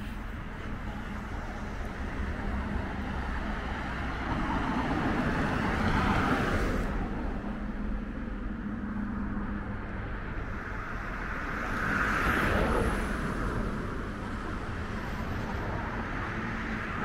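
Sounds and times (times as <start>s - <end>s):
low traffic rumble: 0.0s - 17.0s
passing vehicle: 0.0s - 17.0s.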